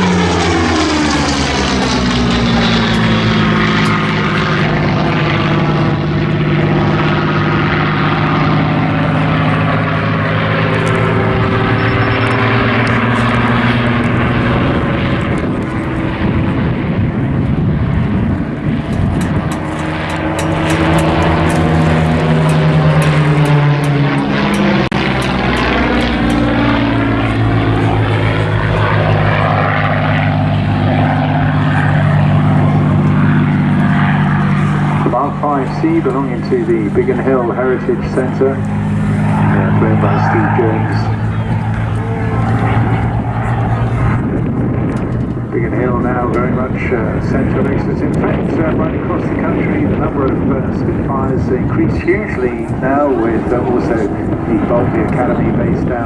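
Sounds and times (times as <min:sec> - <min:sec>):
propeller plane engines flying past: 0:00.0 - 0:56.0.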